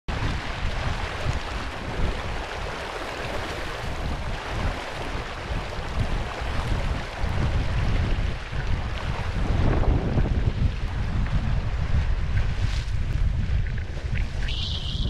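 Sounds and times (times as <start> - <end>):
water rushing and splashing: 0.1 - 15.0
wind buffeting microphone: 0.1 - 15.0.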